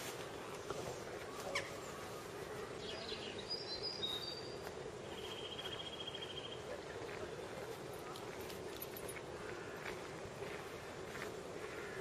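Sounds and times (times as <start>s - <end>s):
faint background noise: 0.0s - 12.0s
small birds chirping: 0.1s - 12.0s.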